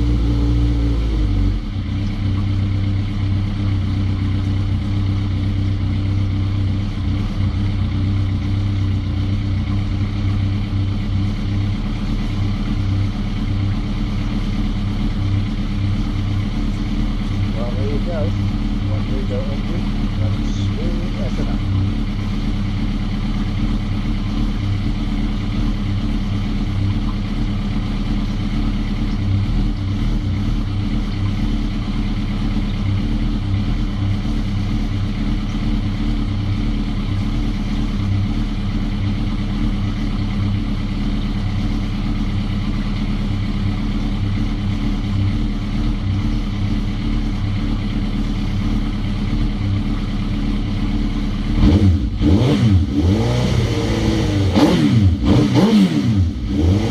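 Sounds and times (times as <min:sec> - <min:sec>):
motorcycle engine idling: 0:00.0 - 0:56.9.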